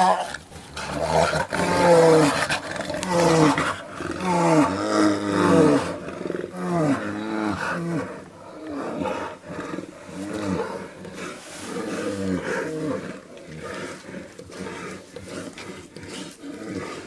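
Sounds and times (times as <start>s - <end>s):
animal roaring: 0.0s - 17.0s.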